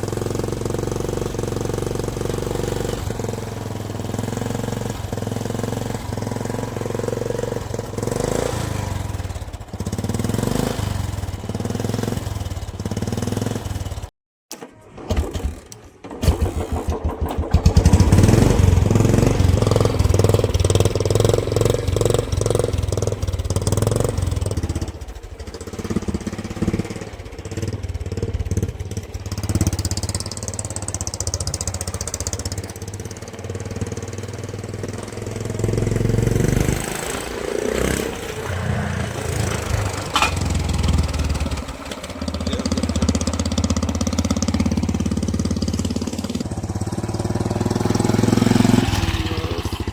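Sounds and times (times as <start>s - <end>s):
loud rough engine exhaust: 0.0s - 14.1s, 15.2s - 49.9s.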